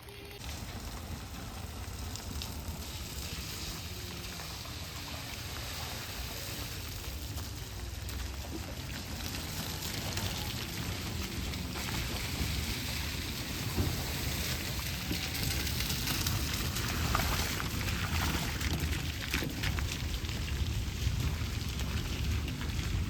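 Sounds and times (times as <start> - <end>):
low steady rumble: 0.0 - 23.0
rain falling: 0.1 - 23.0.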